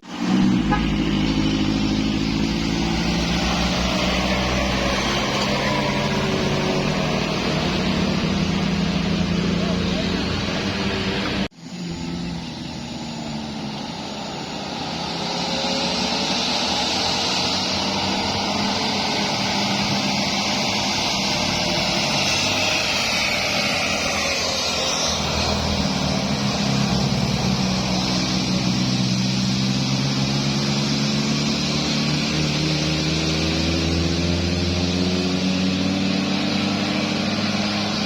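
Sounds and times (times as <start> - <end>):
tyre and road noise: 0.0 - 38.0
vehicle engines under load: 0.0 - 38.0.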